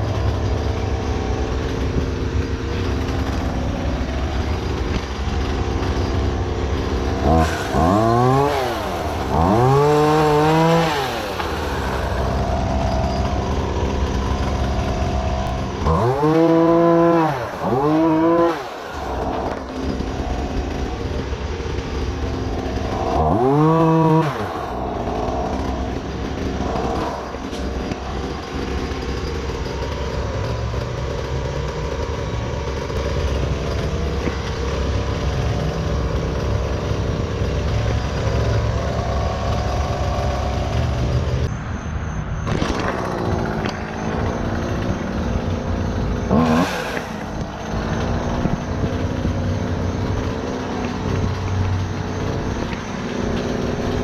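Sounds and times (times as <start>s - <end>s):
engine running and revving: 0.0s - 54.0s.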